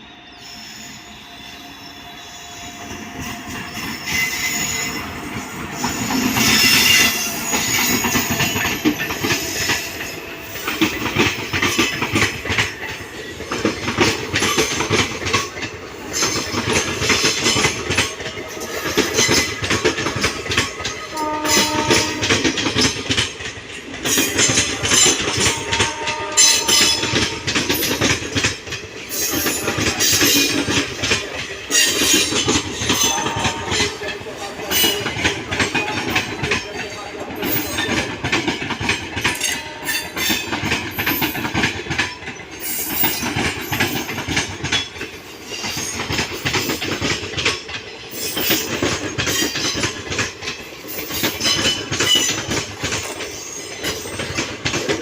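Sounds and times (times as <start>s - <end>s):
train wheels clattering over joints: 2.8s - 55.0s.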